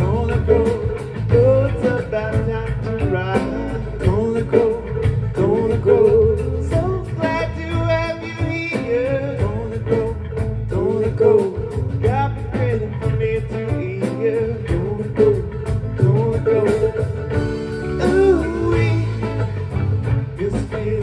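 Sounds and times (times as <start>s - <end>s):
live band playing upbeat rock: 0.0s - 21.0s.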